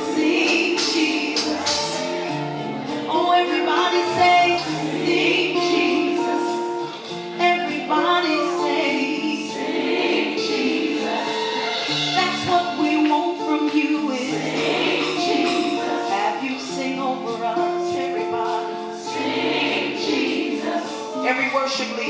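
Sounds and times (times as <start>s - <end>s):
gospel choir with accompaniment: 0.0s - 22.0s.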